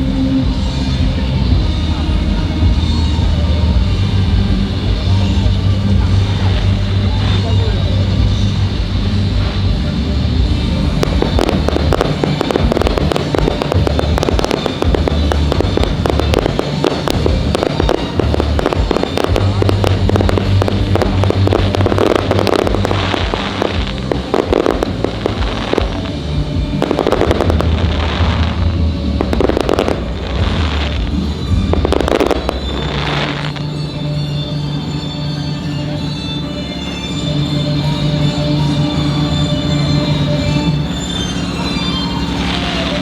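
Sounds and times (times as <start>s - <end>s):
fireworks crackling: 0.0s - 43.0s
music: 0.0s - 43.0s.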